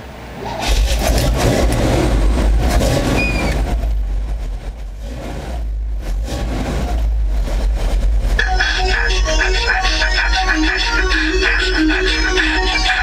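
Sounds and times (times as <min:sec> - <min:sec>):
truck engine rumbling under load: 0:00.0 - 0:13.0.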